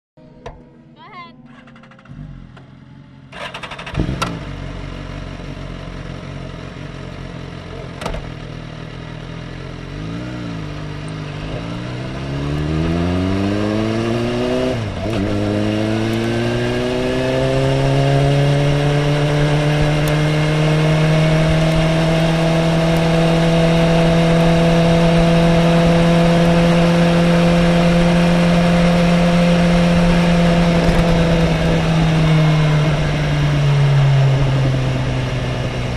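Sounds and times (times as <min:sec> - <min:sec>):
motorcycle engine revving: 0:00.2 - 0:35.9.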